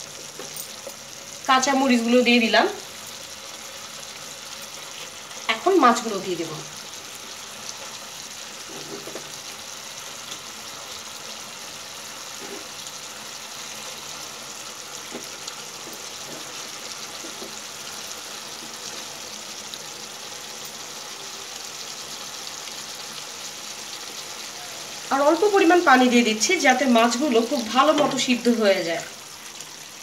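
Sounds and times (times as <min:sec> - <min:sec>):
gravy sizzling in frying pan: 0:00.0 - 0:30.0.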